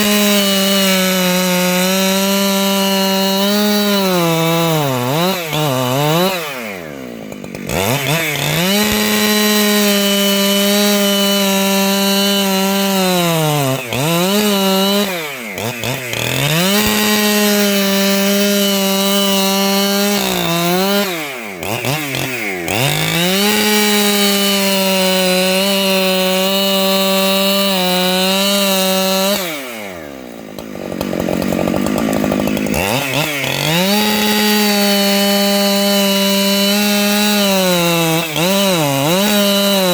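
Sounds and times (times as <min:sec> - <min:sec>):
chainsaw ripping wood: 0:00.0 - 0:39.9.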